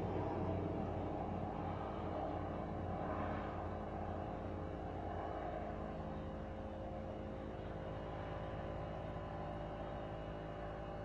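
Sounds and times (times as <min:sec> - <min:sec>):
distant freight train rumbling: 0:00.0 - 0:10.8
low engine hum: 0:00.0 - 0:11.0.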